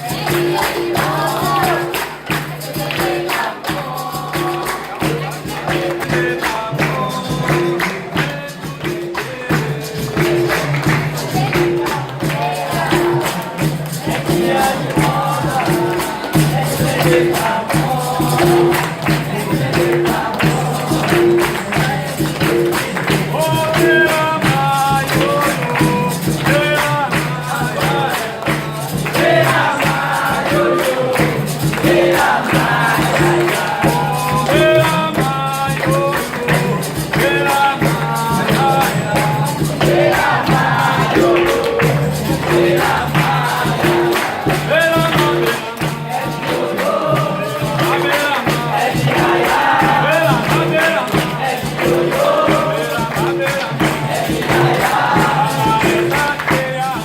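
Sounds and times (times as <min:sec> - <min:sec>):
berimbau and pandeiro rhythm: 0:00.0 - 0:57.0
voices singing: 0:00.0 - 0:57.0.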